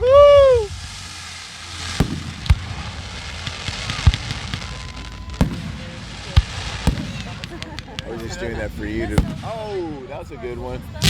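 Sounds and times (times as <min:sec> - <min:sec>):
fireworks crackling: 0:00.0 - 0:11.0
fireworks bangs: 0:00.4 - 0:11.0.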